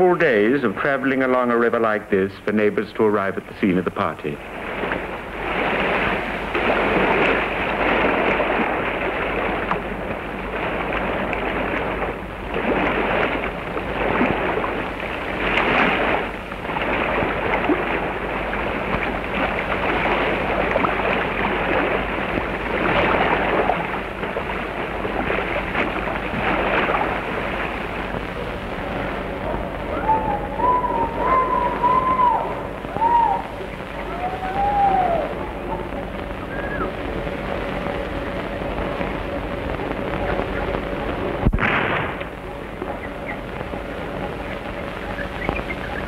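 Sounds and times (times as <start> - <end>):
rushing river water: 4.3 - 46.0.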